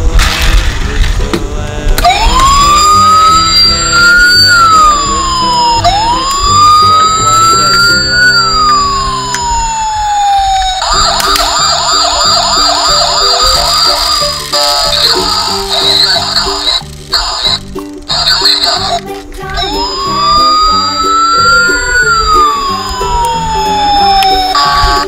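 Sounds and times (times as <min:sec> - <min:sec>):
faint background music: 0:00.1 - 0:10.6, 0:11.6 - 0:25.0
toy police siren: 0:02.0 - 0:19.0, 0:19.6 - 0:25.0.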